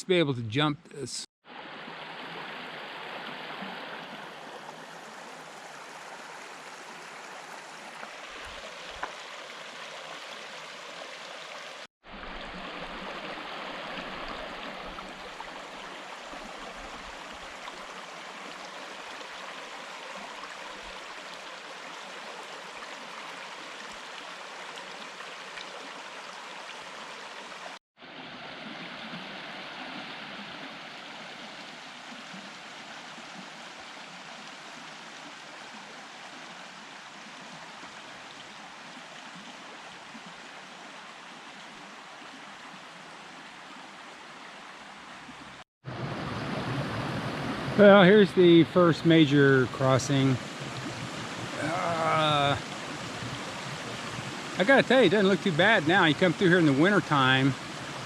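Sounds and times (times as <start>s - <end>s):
creek flowing over rocks: 1.4s - 58.0s.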